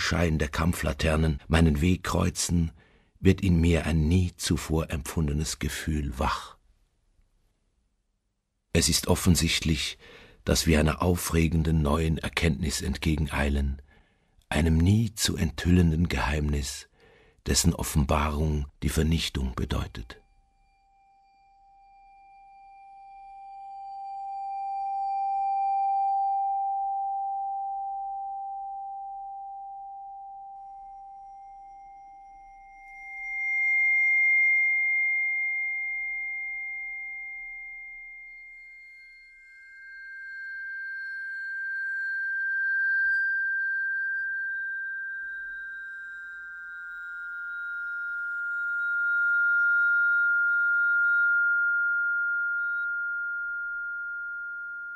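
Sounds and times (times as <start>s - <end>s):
long pure held tones: 0.0s - 54.9s.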